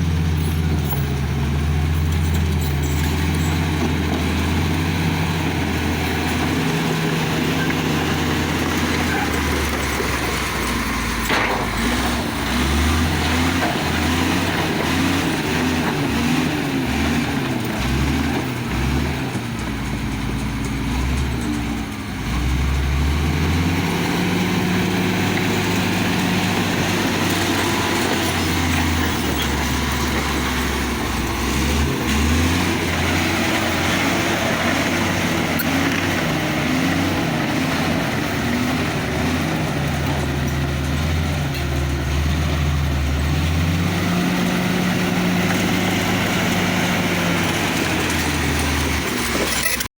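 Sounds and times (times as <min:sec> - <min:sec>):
bulldozer diesel engine revving: 0:00.0 - 0:49.9.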